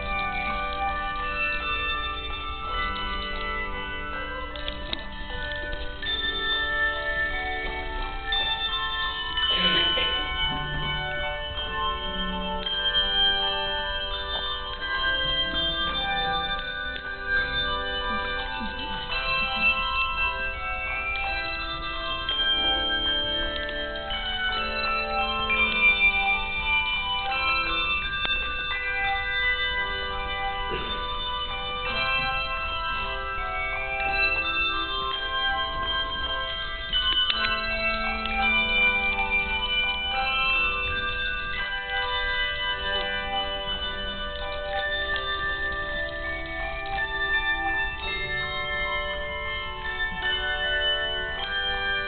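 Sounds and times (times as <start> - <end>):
handbell chords ringing: 0.0 - 52.0.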